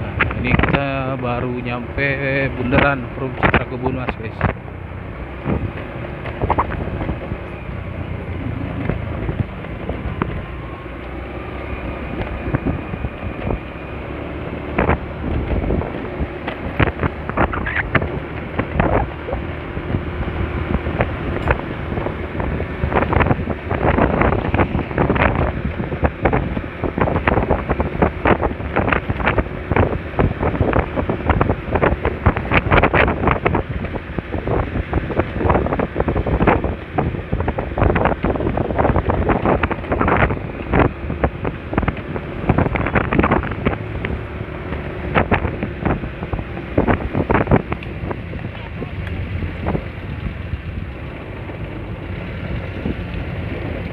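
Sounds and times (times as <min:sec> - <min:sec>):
road noise: 0:00.0 - 0:53.9
wind buffeting on microphone: 0:00.0 - 0:53.9
scooter engine: 0:04.4 - 0:53.9.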